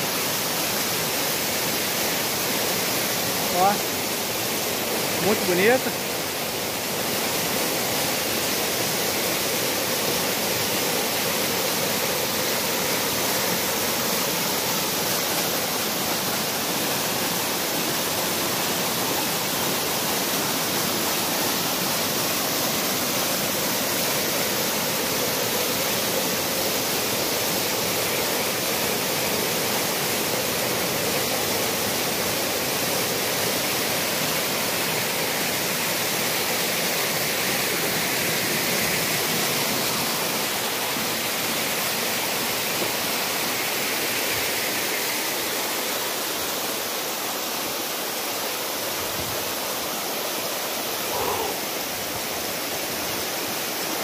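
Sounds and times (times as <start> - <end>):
stream water rushing down rock: 0.0 - 54.0.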